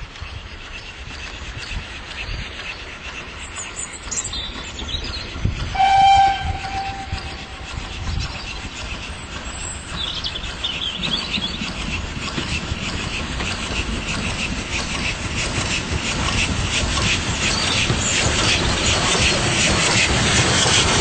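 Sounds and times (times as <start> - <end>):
steam locomotive rumble and hiss: 0.0 - 21.0.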